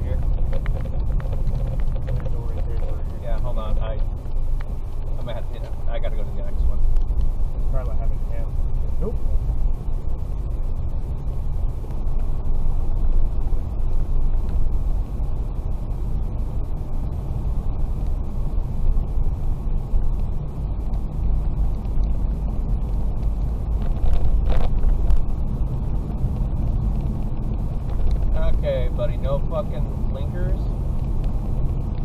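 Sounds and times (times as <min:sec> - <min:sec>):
car engine and tyres on slush: 0:00.0 - 0:32.0.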